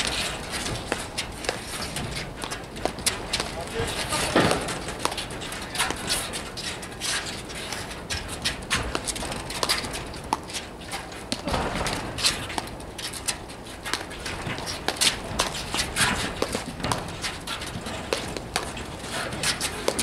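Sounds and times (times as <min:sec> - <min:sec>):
paddles knocking ball: 0:00.0 - 0:06.7, 0:07.8 - 0:20.0
shoes scuffing on court: 0:00.0 - 0:20.0.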